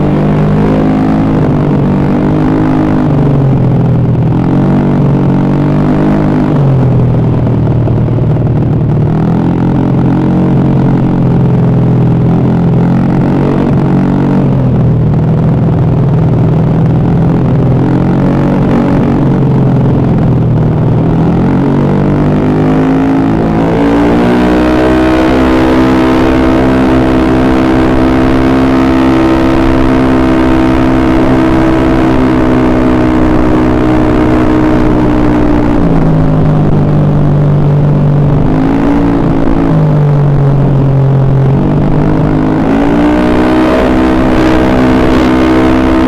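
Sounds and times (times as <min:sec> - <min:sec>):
scooter engine revving: 0:00.0 - 0:46.0.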